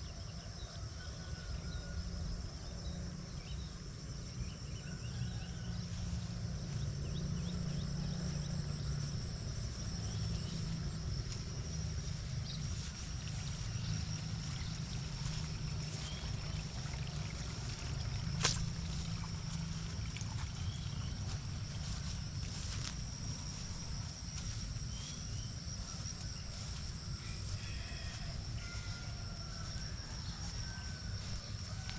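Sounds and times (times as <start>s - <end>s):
insects trilling: 0.0s - 31.9s
constant low rumble: 5.4s - 31.9s.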